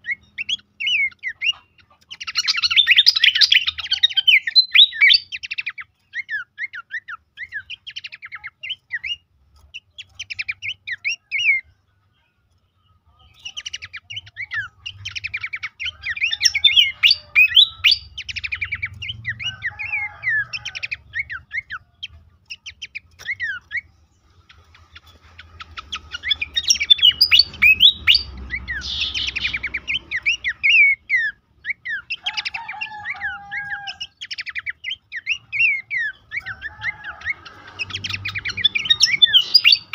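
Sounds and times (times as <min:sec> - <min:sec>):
bird song with chirps and whistles: 0:00.0 - 0:39.9.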